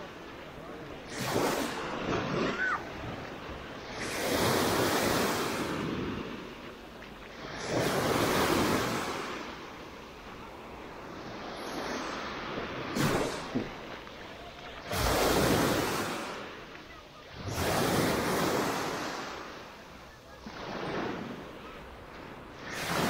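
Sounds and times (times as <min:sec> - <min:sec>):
small waves washing on sand: 0:00.0 - 0:23.0.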